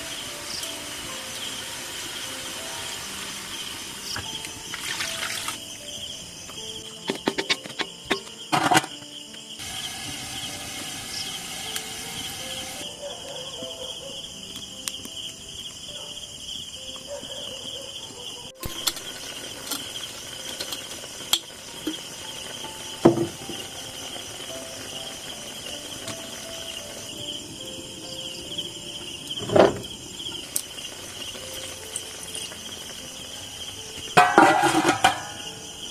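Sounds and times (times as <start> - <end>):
insects chirping: 0.0 - 35.9.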